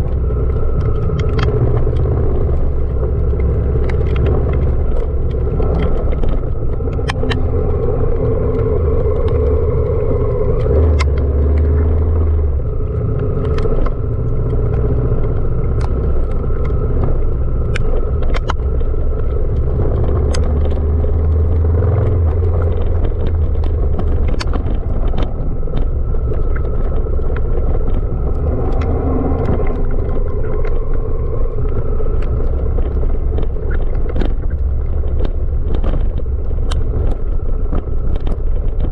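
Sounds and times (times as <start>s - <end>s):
sharp clicks and knocks: 0.0s - 38.9s.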